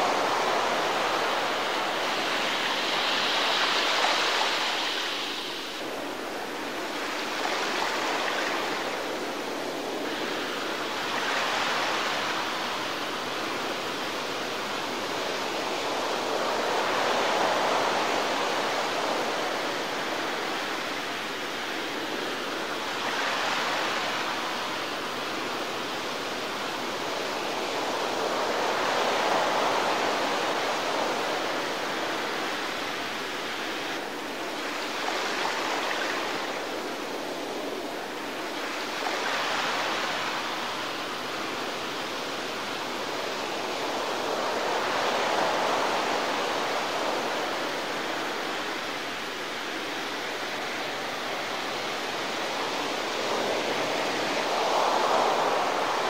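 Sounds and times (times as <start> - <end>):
small waves washing up a beach: 0.0 - 56.0.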